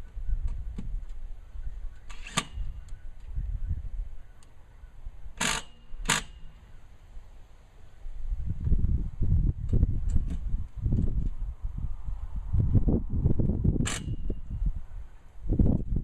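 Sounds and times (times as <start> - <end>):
low rumble of wind on microphone: 0.0 - 5.4, 6.0 - 16.0.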